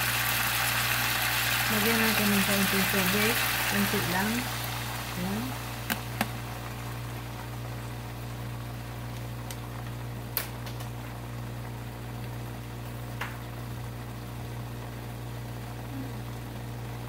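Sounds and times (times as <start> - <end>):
food simmering and bubbling: 0.0 - 17.0.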